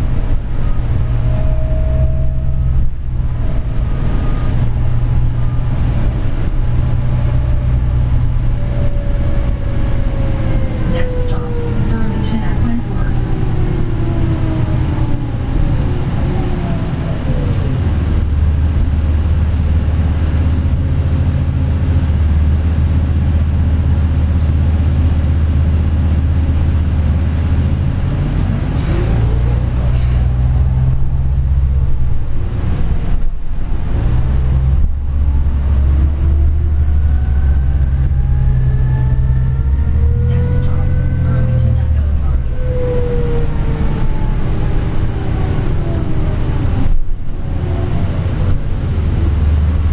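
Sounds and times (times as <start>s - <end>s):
bus diesel drone: 0.0s - 49.9s.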